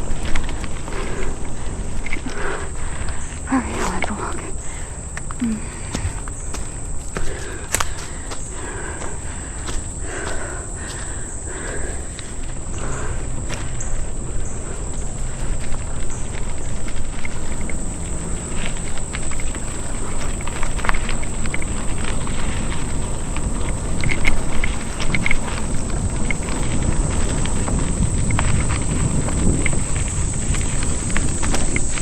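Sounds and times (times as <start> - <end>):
bicycle rattling and clicking: 0.0 - 32.0
footsteps on dirt trail: 0.0 - 32.0
insects buzzing: 0.0 - 32.0.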